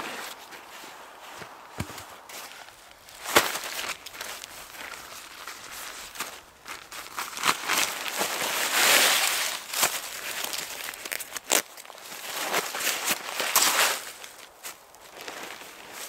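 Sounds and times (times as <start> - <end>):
nylon tent fabric rustling: 0.0 - 16.0.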